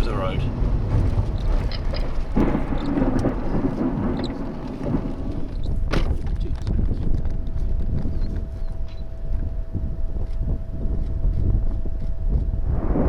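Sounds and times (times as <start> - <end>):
low rumbling thunder: 0.0 - 13.0.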